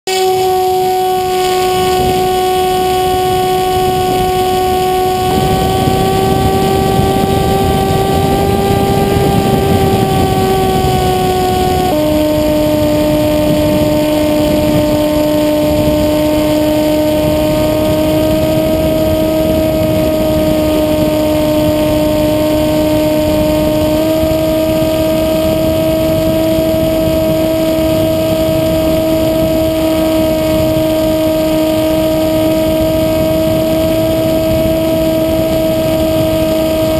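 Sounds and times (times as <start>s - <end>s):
electric motor and propeller whine: 0.1s - 36.9s
rush of wind: 0.1s - 36.9s.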